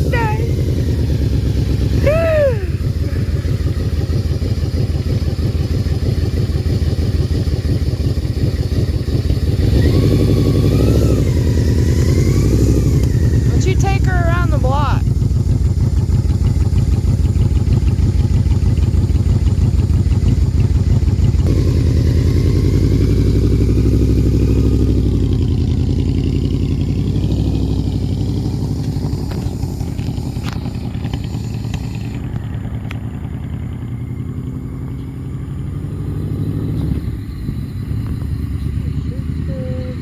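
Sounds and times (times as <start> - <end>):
motorcycle engine idling: 0.0 - 40.0
motorcycle pulling away: 0.0 - 40.0.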